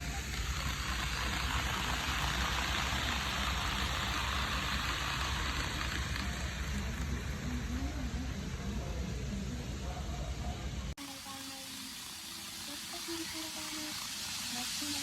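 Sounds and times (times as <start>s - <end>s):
model train rolling on track: 0.0s - 9.4s, 11.0s - 15.0s.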